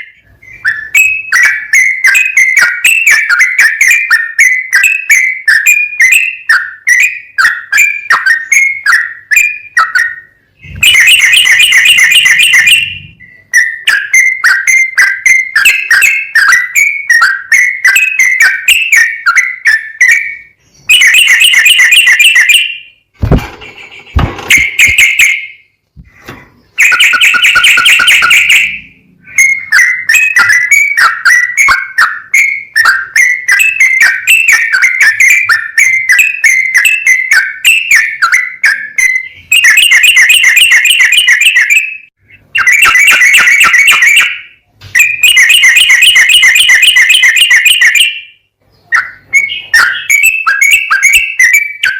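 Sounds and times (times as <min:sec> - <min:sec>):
bird whistled phrases: 0:00.0 - 0:22.9, 0:24.0 - 0:25.7, 0:26.6 - 0:51.9.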